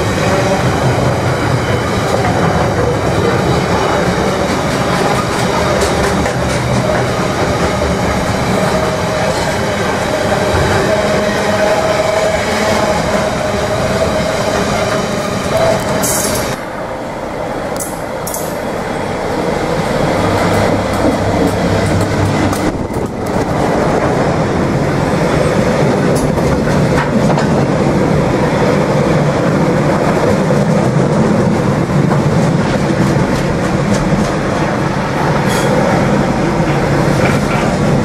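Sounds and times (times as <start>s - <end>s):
diesel locomotive engine hum: 0.0s - 38.0s
wagons rumbling over rails: 0.0s - 38.0s.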